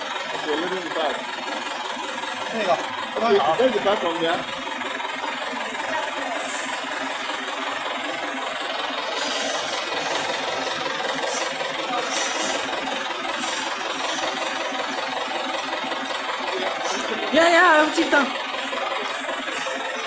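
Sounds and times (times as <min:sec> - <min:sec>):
drilling rig engine running: 0:00.0 - 0:20.0.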